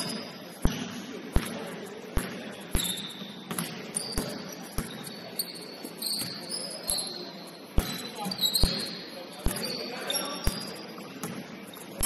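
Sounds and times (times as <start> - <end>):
sneaker squeaks: 0.0 - 0.8, 2.2 - 12.0
basketball bouncing on court: 0.0 - 6.4, 7.8 - 11.6.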